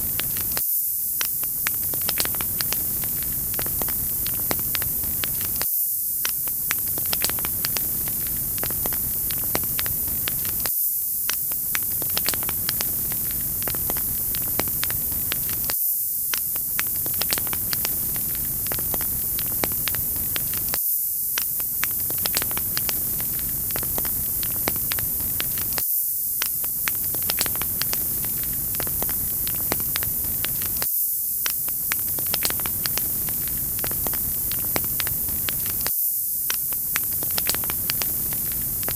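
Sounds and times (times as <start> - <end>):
wood fire crackling: 0.0 - 0.6, 1.6 - 5.6, 6.5 - 10.7, 11.3 - 15.7, 16.3 - 20.8, 21.7 - 25.8, 26.4 - 35.9, 36.5 - 38.9.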